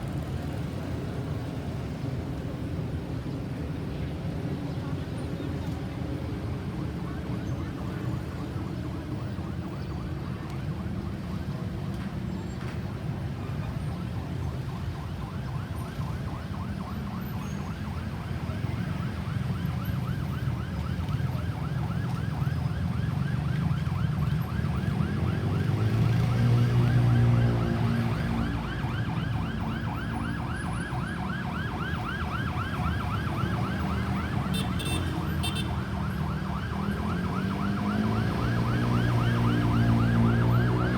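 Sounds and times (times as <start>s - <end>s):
low traffic rumble: 0.0s - 40.9s
ambulance siren: 6.2s - 40.9s.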